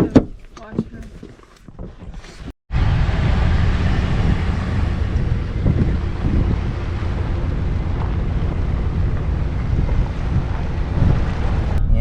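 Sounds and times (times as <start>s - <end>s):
wind buffeting microphone: 0.0s - 12.0s
van driving rumble: 2.4s - 12.0s.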